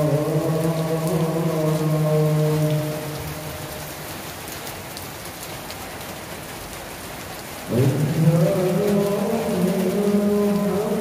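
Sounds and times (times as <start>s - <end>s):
heavy rain splashing into water: 0.0s - 11.0s.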